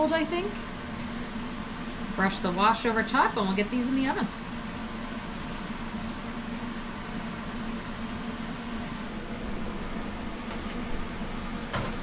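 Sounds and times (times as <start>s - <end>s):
kitchen appliance humming and hissing: 0.0s - 12.0s.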